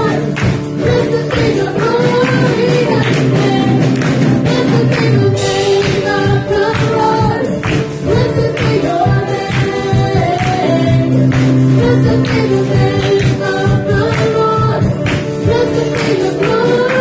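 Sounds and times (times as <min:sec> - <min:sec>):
amplified instrumental accompaniment: 0:00.0 - 0:17.0
woman singing into microphone: 0:00.0 - 0:17.0.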